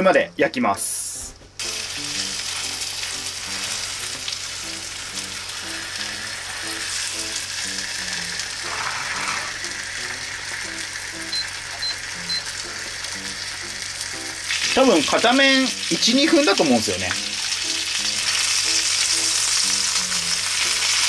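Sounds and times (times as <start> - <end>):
soft background music: 0.0 - 21.0
chicken sizzling in frying pan: 1.6 - 21.0.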